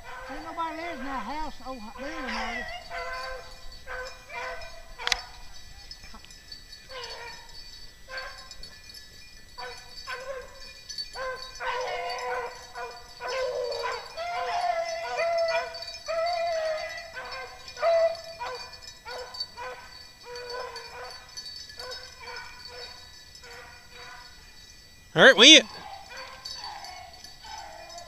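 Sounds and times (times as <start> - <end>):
hounds baying: 0.0 - 28.0.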